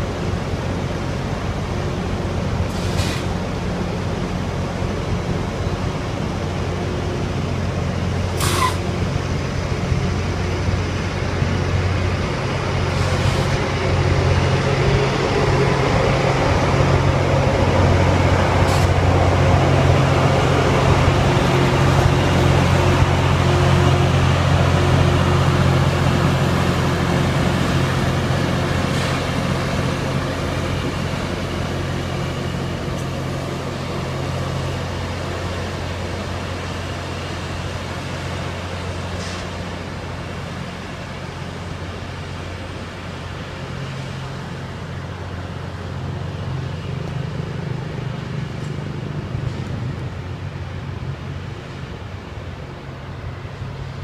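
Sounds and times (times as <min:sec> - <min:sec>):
diesel train engines droning: 0:00.0 - 0:54.0.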